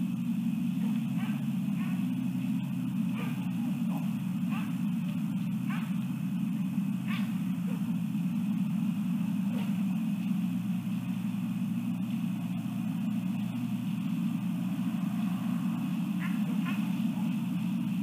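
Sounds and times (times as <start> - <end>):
low night rumble: 0.0 - 18.0.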